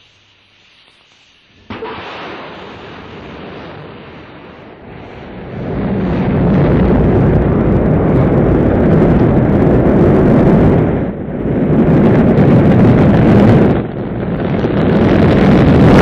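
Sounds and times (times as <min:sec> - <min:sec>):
rocket engines roaring: 0:01.7 - 0:16.0.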